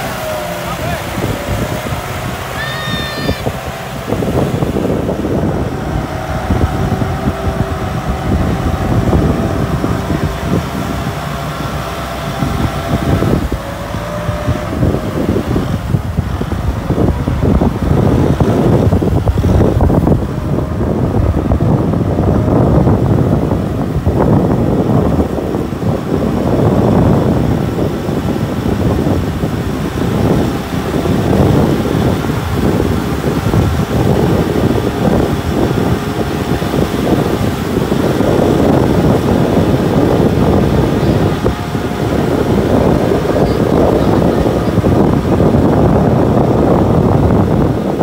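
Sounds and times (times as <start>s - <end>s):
steady whine: 0.0s - 48.0s
tractor diesel engine under load: 0.0s - 48.0s
trailer dragged through water: 0.0s - 48.0s
wind buffeting microphone: 0.0s - 48.0s.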